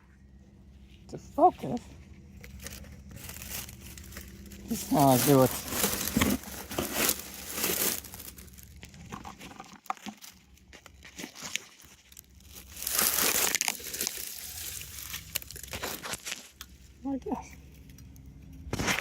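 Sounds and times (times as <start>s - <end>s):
dry debris crackling and rustling: 0.6s - 19.0s.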